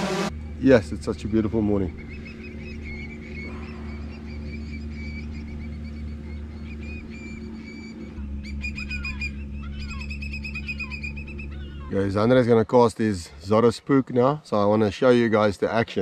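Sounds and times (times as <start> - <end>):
steady low hum: 0.0 - 14.8
birds chirping: 0.0 - 16.0.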